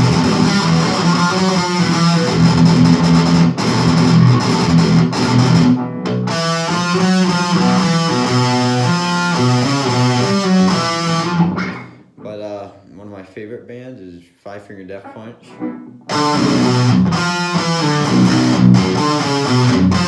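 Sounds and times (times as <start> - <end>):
distorted electric guitar riff: 0.0 - 12.4, 15.1 - 20.0.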